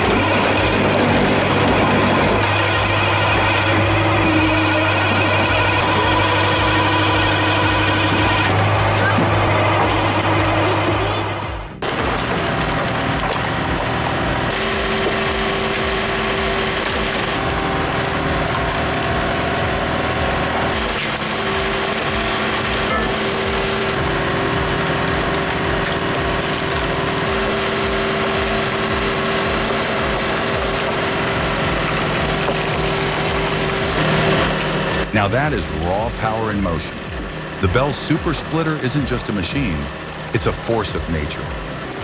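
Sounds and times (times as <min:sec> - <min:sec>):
log splitter engine drone: 0:00.0 - 0:42.0
wood crushing and splintering: 0:00.0 - 0:42.0.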